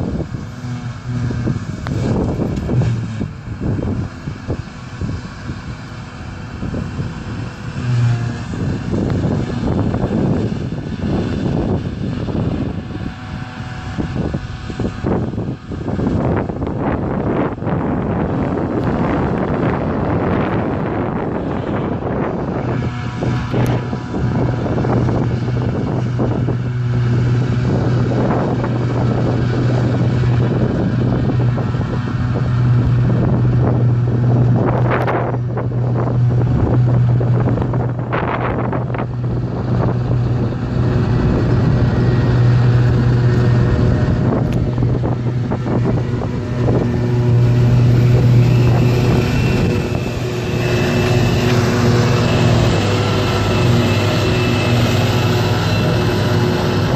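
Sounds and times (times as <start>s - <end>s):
farm machinery engines droning: 0.0s - 56.9s
harvester chopping grass: 0.0s - 56.9s.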